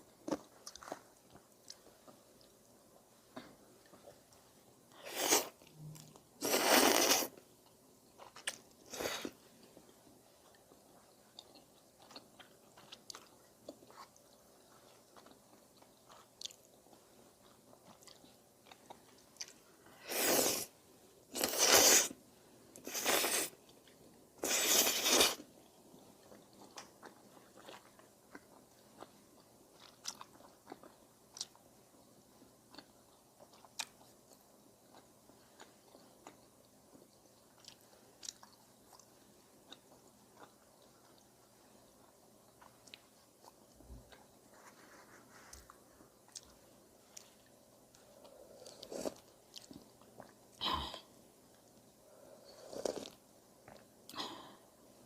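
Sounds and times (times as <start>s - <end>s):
soft chewing: 0.0s - 20.1s, 21.0s - 55.0s.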